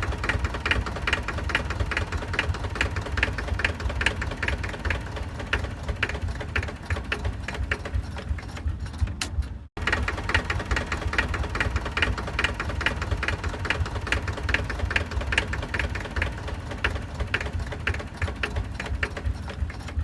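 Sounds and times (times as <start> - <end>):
motor running with mechanical clatter: 0.0 - 20.0.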